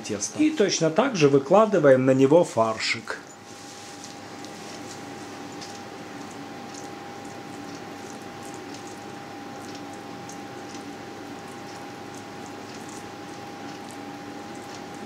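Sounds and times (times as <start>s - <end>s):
thin high hum: 2.6s - 15.0s.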